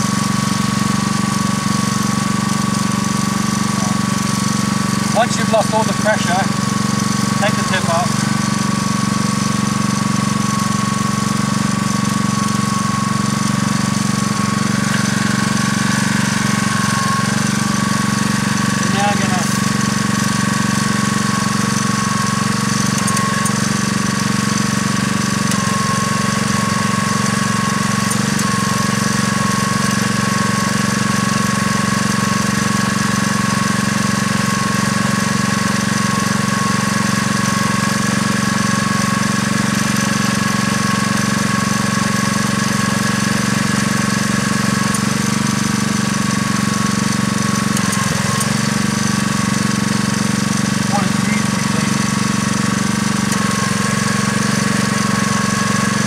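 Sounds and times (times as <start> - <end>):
gasoline engine running steadily: 0.0 - 56.0.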